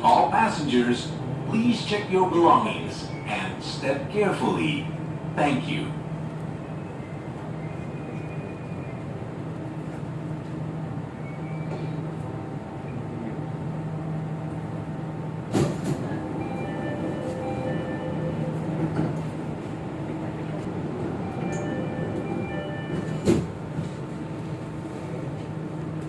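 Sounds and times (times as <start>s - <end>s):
train rumble and hum: 0.0s - 26.0s.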